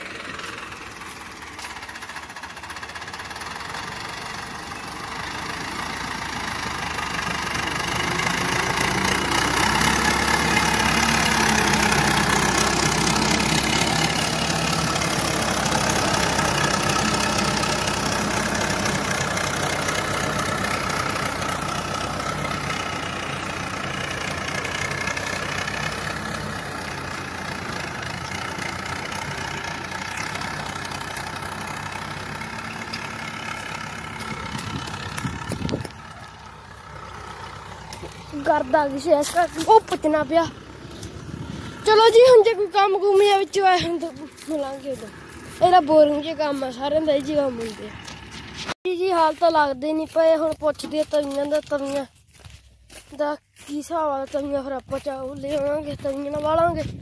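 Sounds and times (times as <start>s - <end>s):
tractor engine: 0.0s - 57.0s.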